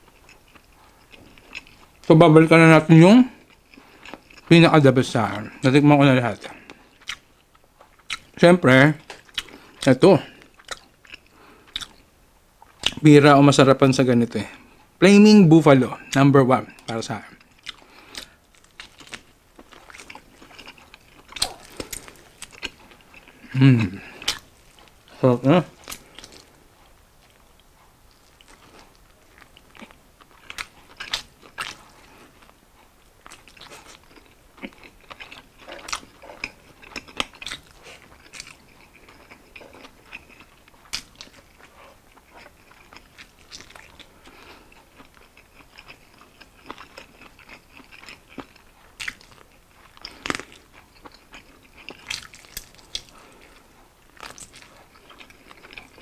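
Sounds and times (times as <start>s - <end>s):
person chewing crunchy food: 0.0s - 2.1s, 3.2s - 8.4s, 9.0s - 13.0s, 15.9s - 56.0s.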